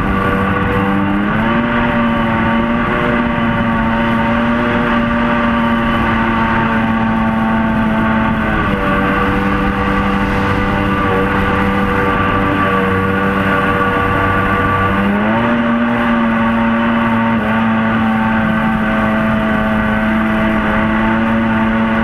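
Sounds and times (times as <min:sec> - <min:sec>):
jet boat engine droning: 0:00.0 - 0:22.0.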